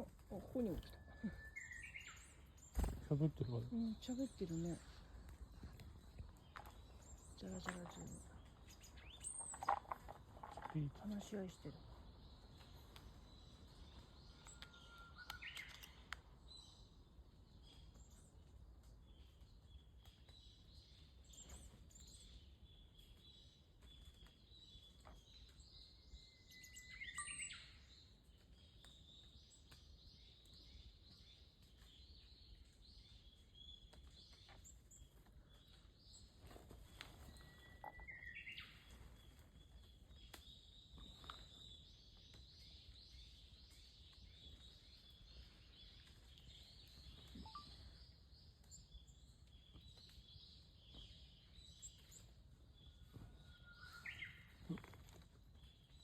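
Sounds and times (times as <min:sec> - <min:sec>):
birds chirping softly: 0:00.0 - 0:56.0.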